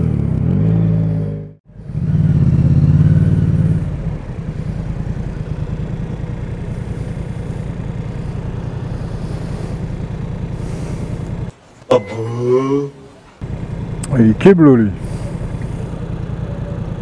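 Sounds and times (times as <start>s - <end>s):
motorcycle engine running: 0.0s - 11.6s, 13.4s - 17.0s.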